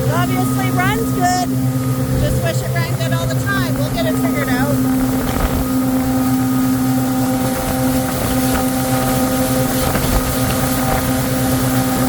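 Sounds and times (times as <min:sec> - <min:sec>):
motorboat engine drone: 0:00.0 - 0:12.0
wind buffeting microphone: 0:00.0 - 0:12.0.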